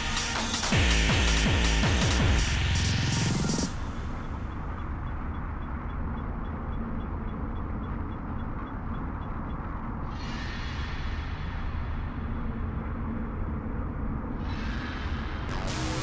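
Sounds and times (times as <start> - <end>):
low engine-like rumble: 2.5 - 16.0.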